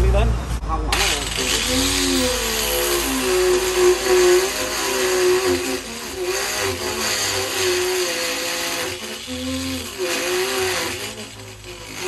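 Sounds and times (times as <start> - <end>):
angle grinder whine: 0.9 - 12.0
gritty cutting into tire: 0.9 - 12.0.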